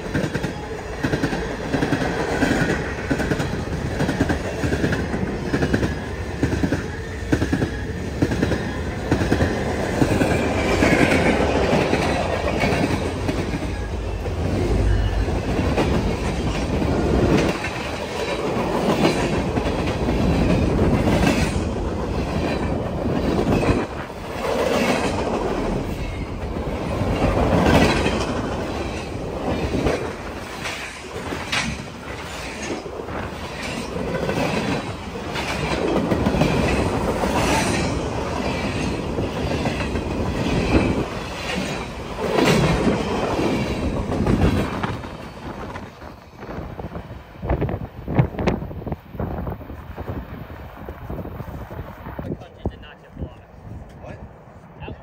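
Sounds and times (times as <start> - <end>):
wheels clacking over rails: 0.0 - 46.0
freight train rumbling past: 0.0 - 55.0.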